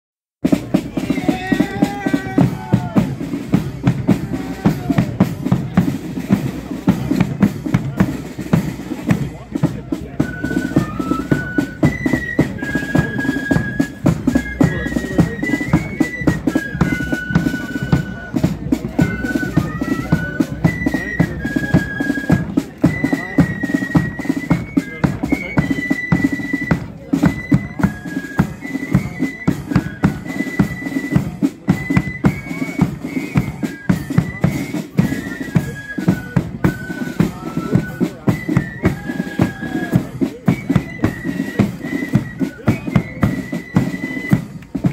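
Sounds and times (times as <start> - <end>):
flutes playing high melody: 0.4 - 44.9
snare drums beating march rhythm: 0.4 - 44.9.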